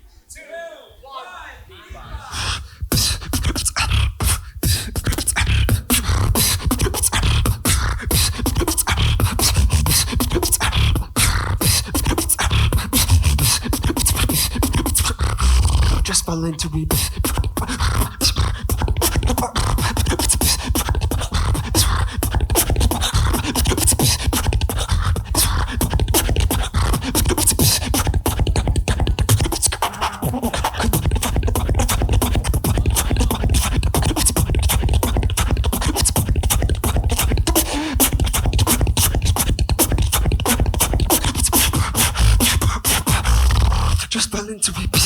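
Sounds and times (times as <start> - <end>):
beatboxing: 2.0 - 45.0
deep vocal bass: 2.0 - 45.0.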